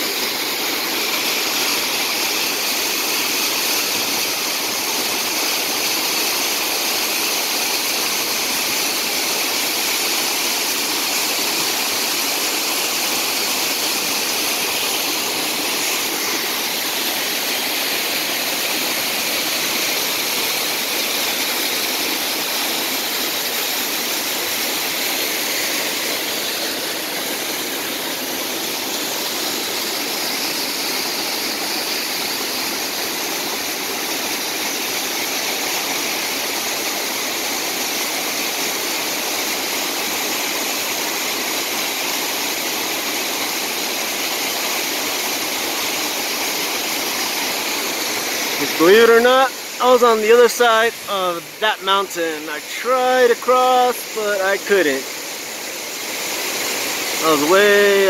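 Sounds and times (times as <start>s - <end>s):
waterfall splashing: 0.0s - 58.0s.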